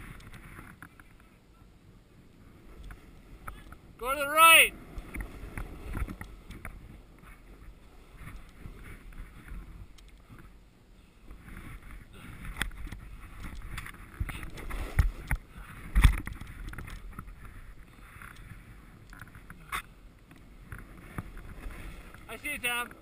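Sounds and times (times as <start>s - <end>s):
wind rumble on microphone: 0.0s - 4.0s, 4.7s - 23.0s.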